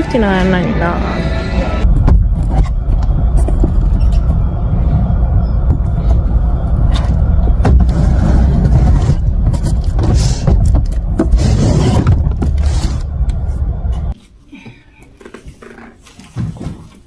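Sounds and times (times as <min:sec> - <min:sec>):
moving car rumble: 0:00.0 - 0:14.2.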